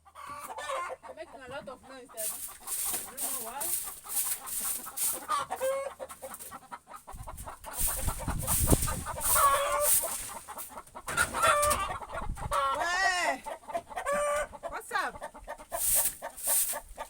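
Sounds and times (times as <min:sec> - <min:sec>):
chickens clucking and squawking: 0:00.0 - 0:17.0.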